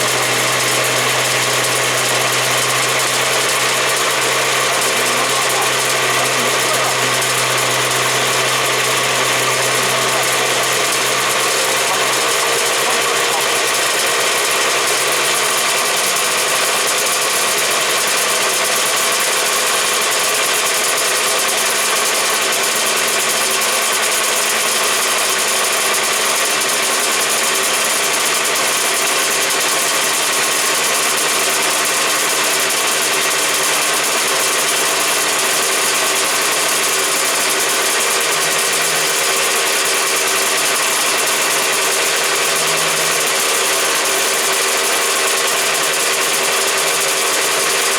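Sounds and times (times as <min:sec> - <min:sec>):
racing engine idling: 0:00.0 - 0:47.9.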